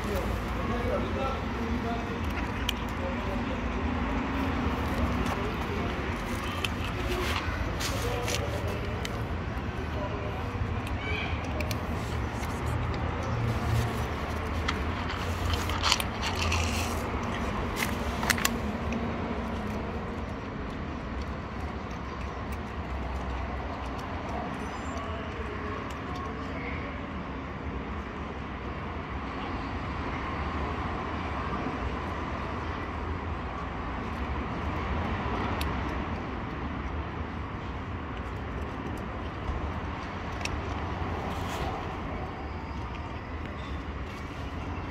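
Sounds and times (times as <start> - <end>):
distant traffic rumble: 0.0 - 44.9.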